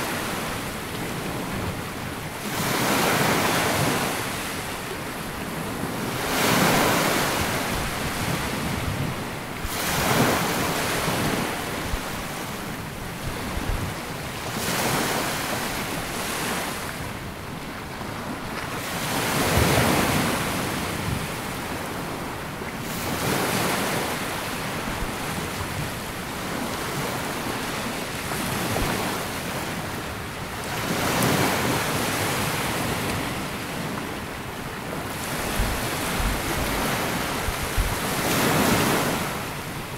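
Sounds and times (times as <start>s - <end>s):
sea waves washing up beach: 0.0s - 39.9s
wind on microphone: 0.0s - 39.9s.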